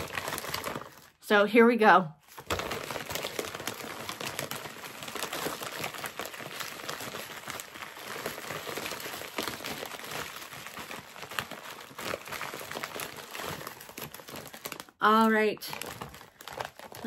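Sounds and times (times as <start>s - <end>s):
plastic wrapping crinkling: 0.0s - 1.2s, 2.2s - 17.0s.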